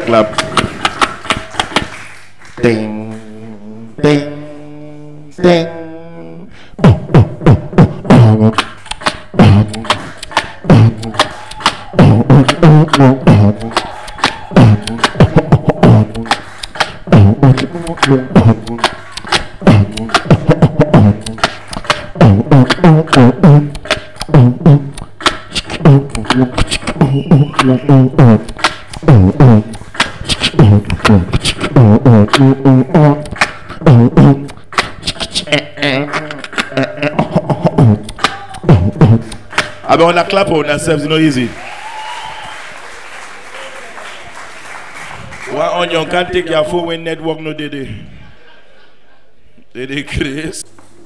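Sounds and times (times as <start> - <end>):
beatboxing into a microphone: 0.0 - 42.0, 45.1 - 48.4.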